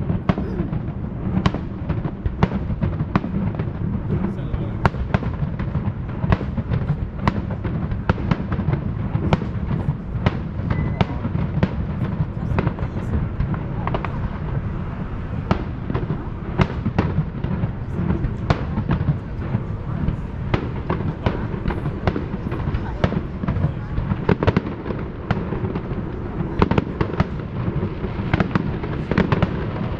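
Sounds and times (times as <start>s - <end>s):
fireworks bangs: 0.0s - 29.9s
low rumble: 0.0s - 29.9s.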